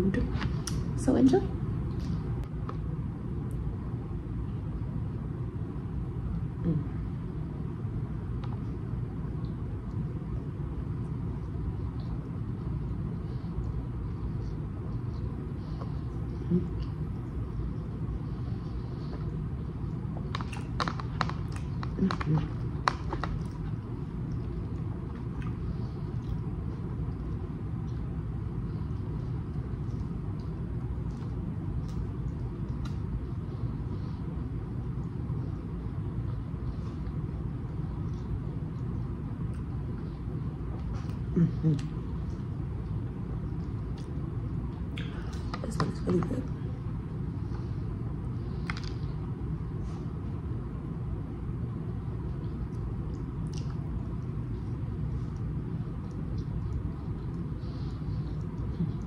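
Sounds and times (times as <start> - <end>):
steady low rumble: 0.0 - 59.0
person chewing with wet clicks: 0.3 - 1.0, 1.8 - 6.6, 7.2 - 59.0.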